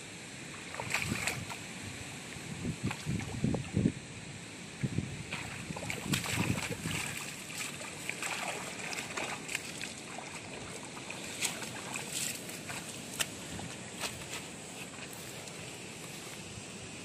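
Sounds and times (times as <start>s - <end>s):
water splashing and sloshing: 0.5s - 1.7s, 2.3s - 3.7s, 4.8s - 16.4s.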